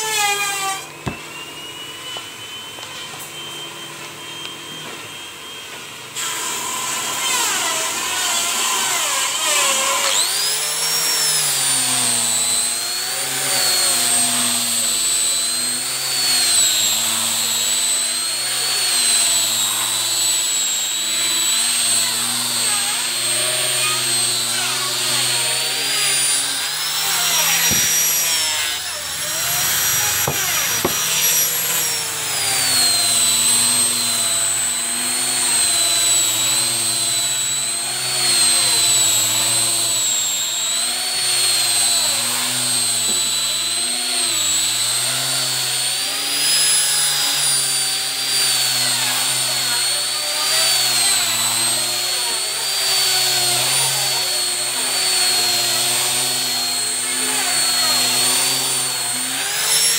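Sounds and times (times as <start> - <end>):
hand grinder sanding wood: 0.0 - 59.9.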